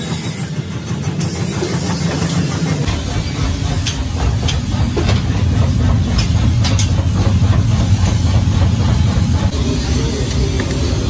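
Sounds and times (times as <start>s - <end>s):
machinery and furnace rumble: 0.0s - 11.0s.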